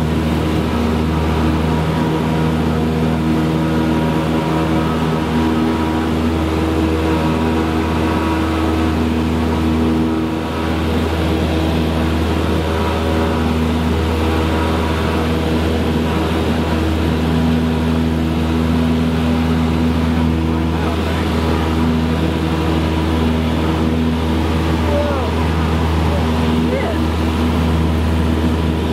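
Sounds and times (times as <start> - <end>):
small airplane engine drone: 0.0 - 28.9.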